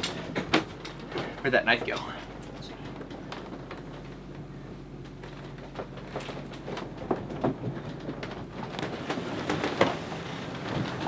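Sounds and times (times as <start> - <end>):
low rumble of sailboat: 0.0 - 11.0.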